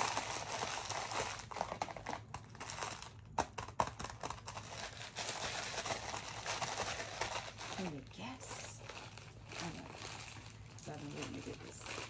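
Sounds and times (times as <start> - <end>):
plastic bag crinkling: 0.0 - 12.0
sharp plastic crackles: 0.0 - 12.0.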